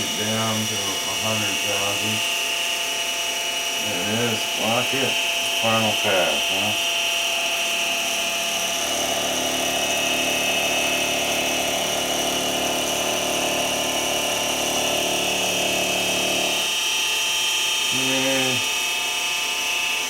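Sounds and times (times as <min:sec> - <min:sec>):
milling machine motor whine: 0:00.0 - 0:20.0.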